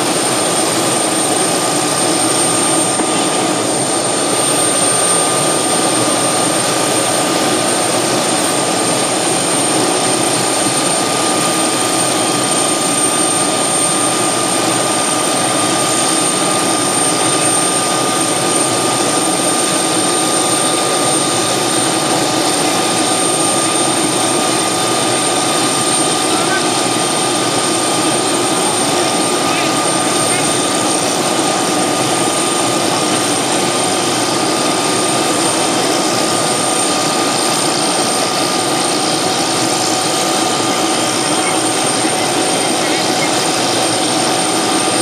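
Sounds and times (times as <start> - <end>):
helicopter engine whine: 0.0 - 45.0
helicopter rotor rushing: 0.0 - 45.0.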